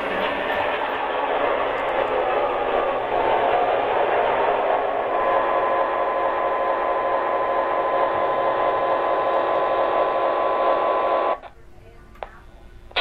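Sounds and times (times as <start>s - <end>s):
tinny diesel engine sound effect: 0.0s - 11.4s
steady tone: 0.0s - 11.7s.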